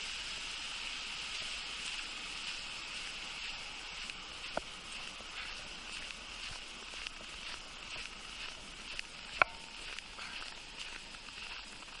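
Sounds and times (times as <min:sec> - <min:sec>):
steady high hiss: 0:00.0 - 0:12.0
footsteps crunching in snow: 0:01.3 - 0:12.0.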